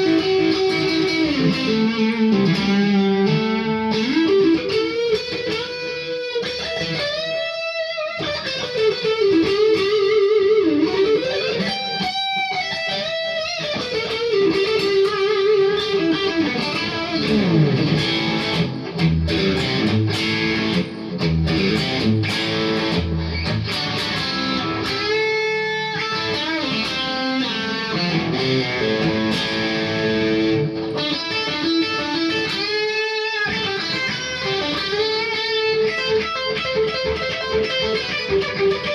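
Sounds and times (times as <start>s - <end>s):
electric guitar lead through amp: 0.0s - 38.9s.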